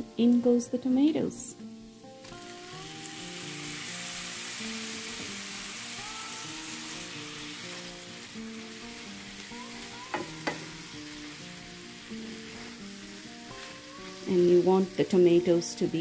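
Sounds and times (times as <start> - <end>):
tomatoes sizzling in hot oil: 0.1 - 16.0.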